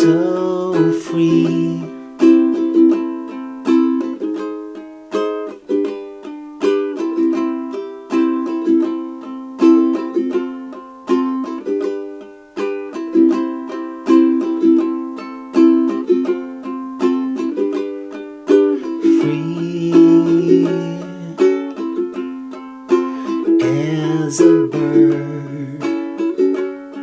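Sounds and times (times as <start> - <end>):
ukulele strumming chords: 0.0 - 27.0.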